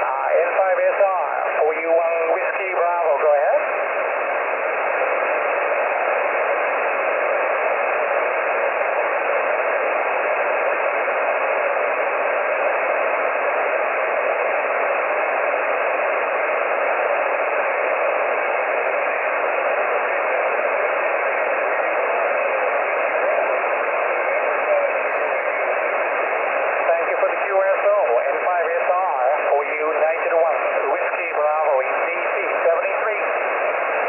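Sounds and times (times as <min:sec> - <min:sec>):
radio static hiss: 0:00.0 - 0:34.0.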